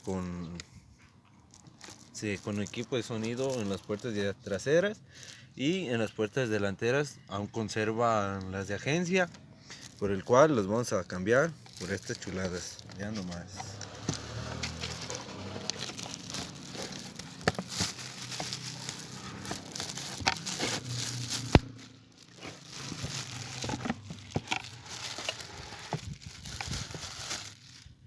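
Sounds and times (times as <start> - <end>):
packaging crinkling and rustling: 1.4 - 4.6, 8.5 - 28.0.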